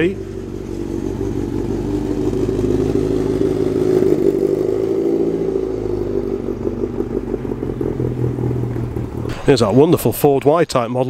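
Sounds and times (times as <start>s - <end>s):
vehicle engine running: 0.0s - 10.3s.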